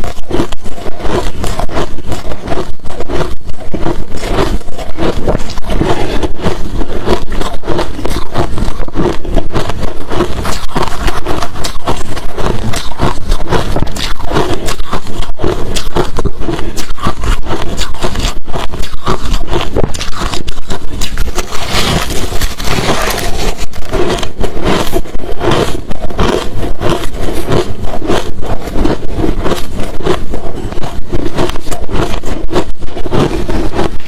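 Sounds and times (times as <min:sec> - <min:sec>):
ice being chewed: 0:00.0 - 0:34.0.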